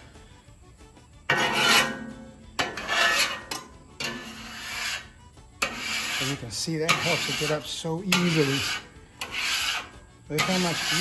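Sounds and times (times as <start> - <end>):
scraper scraping griddle: 1.3 - 11.0.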